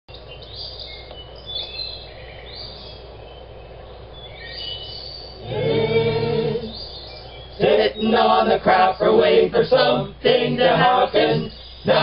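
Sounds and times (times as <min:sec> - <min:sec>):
birds chirping: 0:00.1 - 0:09.8, 0:10.9 - 0:12.0
steady low hum: 0:00.1 - 0:12.0.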